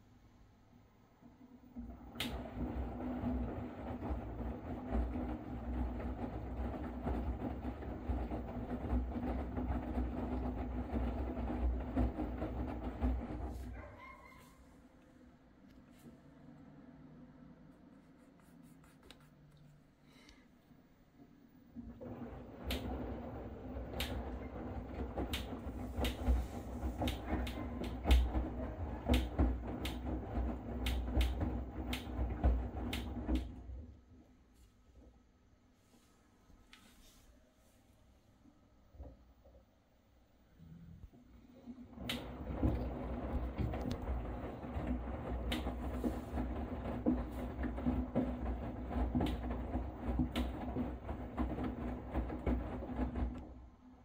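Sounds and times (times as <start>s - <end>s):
washing machine tumbling laundry: 0.0s - 17.9s, 20.8s - 54.0s.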